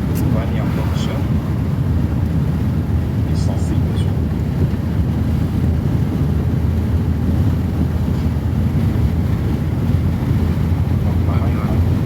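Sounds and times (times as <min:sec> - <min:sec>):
steady low rumbling: 0:00.0 - 0:12.0.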